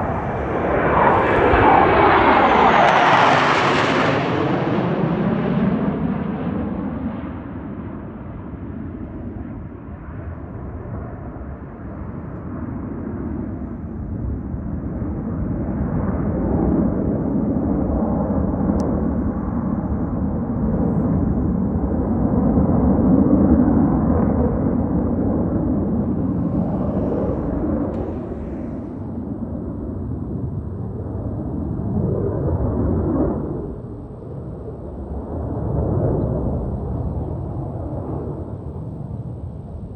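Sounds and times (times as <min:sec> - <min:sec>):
jet fighters flying past: 0:00.0 - 0:39.9.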